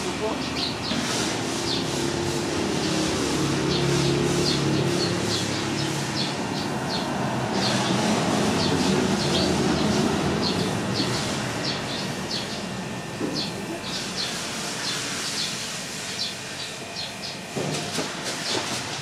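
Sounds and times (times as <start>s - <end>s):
birds chirping: 0.0s - 17.6s.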